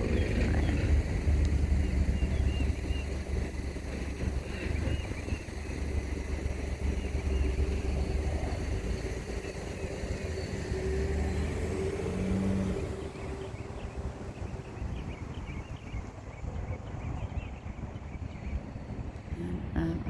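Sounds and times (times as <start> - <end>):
engine running with low rumble: 0.0 - 20.0.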